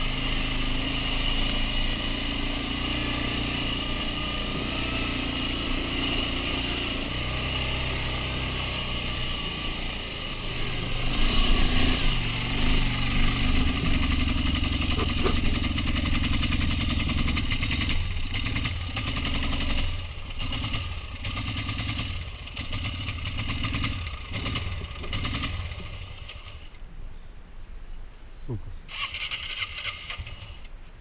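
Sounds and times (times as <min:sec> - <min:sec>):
quad bike engine revving: 0:00.0 - 0:26.7, 0:28.9 - 0:30.7.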